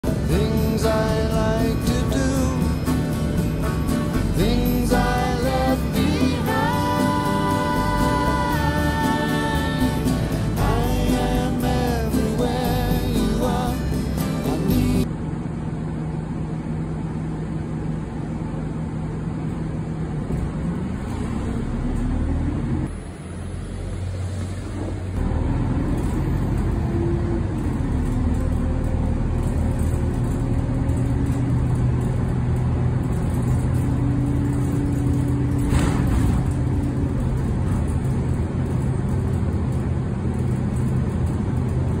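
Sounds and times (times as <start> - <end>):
bus engine running: 0.0 - 42.0
road noise: 0.0 - 42.0.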